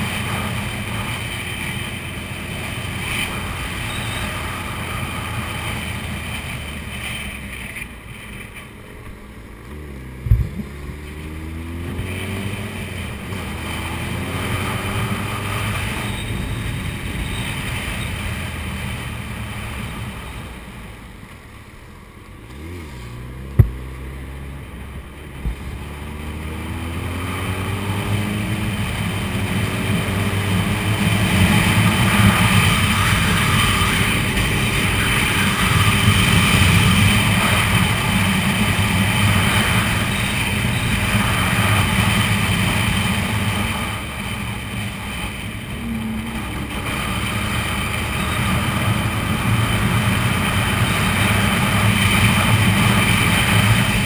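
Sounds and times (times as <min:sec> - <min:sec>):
wind and road noise: 0:00.0 - 0:54.0
motorcycle engine accelerating: 0:09.5 - 0:21.2, 0:22.3 - 0:54.0.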